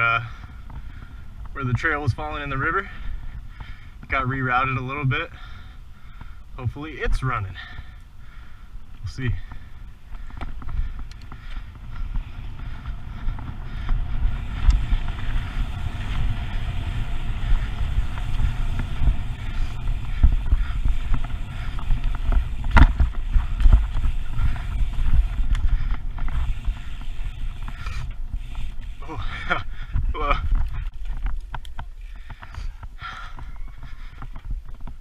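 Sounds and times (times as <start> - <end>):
bike clicks and rattles: 0.0 - 35.0
bike tyres rolling on dirt: 0.0 - 35.0
wind buffeting microphone: 5.0 - 35.0.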